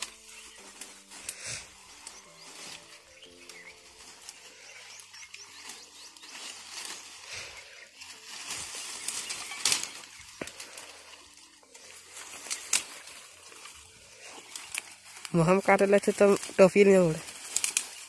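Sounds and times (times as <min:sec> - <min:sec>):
dry twigs snapping: 0:00.0 - 0:18.0
leaves rustling: 0:00.0 - 0:18.0.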